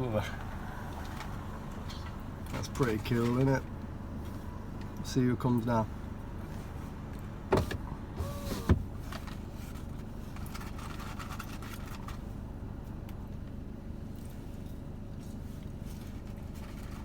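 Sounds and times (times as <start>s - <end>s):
low rumble inside car: 0.0s - 17.0s.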